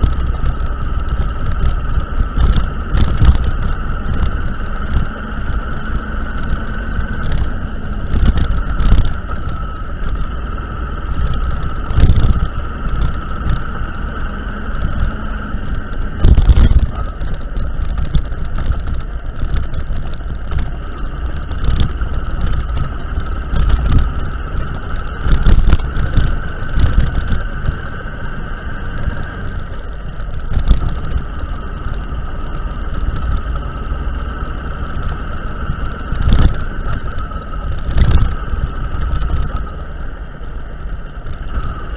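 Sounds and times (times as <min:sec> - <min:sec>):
low rumble: 0:00.0 - 0:41.9
vehicle jolts and rattles: 0:00.0 - 0:41.9
vehicle running hum and whine: 0:00.0 - 0:41.9.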